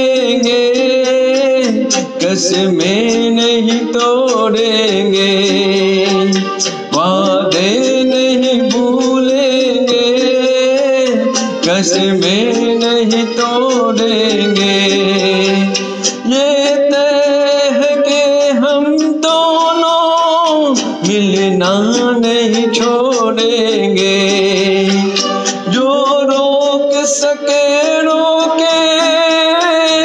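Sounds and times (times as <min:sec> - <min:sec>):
man singing into karaoke microphone: 0:00.0 - 0:30.0
recorded backing track: 0:00.0 - 0:30.0.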